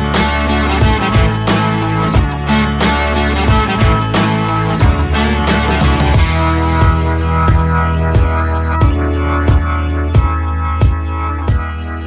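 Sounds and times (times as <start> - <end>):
guitar over a steady beat: 0.0 - 12.0.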